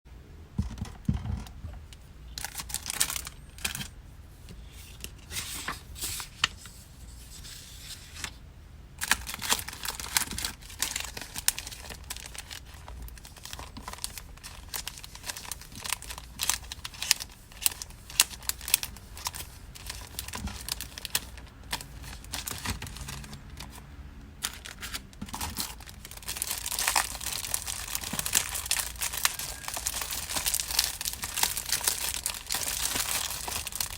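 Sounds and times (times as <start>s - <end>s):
packing materials crinkling and tearing: 1.4s - 3.9s, 9.0s - 33.9s.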